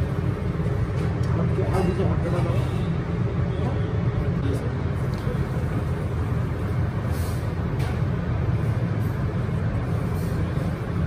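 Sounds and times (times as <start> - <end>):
kitchen background roar: 0.0 - 11.0.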